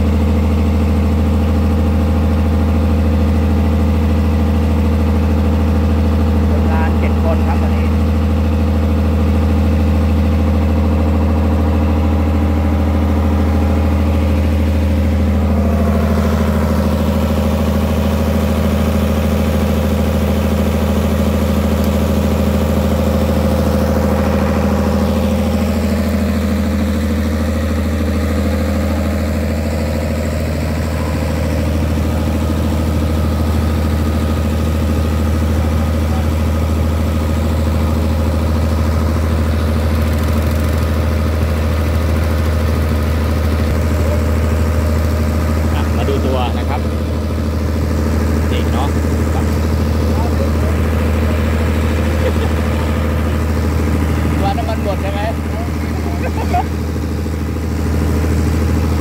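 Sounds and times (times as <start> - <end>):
small petrol engine running: 0.0 - 59.0.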